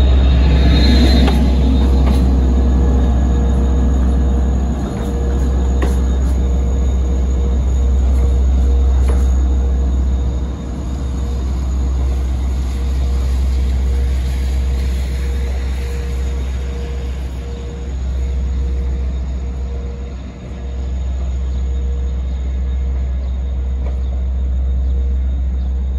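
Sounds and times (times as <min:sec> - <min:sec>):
diesel train rumbling: 0:00.0 - 0:25.9.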